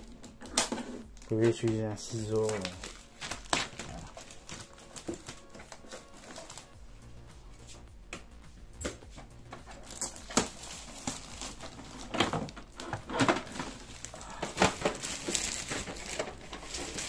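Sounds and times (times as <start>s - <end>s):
plastic wrap crinkling: 0.0s - 6.8s, 9.6s - 17.0s.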